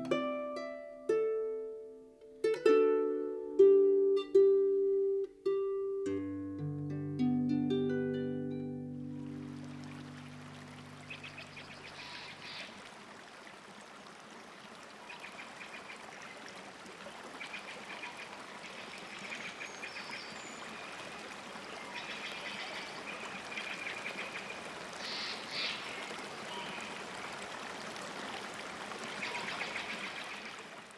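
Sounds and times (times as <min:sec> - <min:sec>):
stream flowing: 0:00.0 - 0:30.9.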